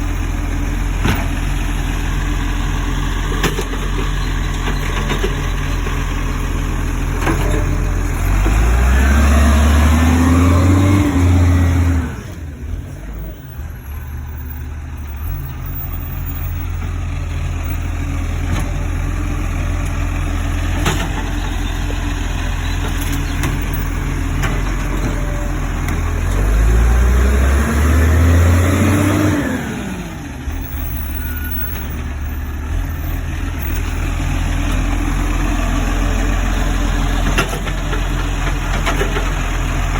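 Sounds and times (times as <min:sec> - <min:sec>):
garbage truck engine idling and revving: 0:00.0 - 0:39.9.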